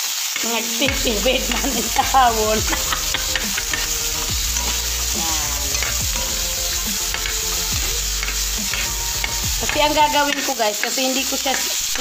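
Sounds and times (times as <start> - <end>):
vegetables sizzling in hot oil: 0.0 - 12.0
spatula scraping pan: 0.3 - 12.0.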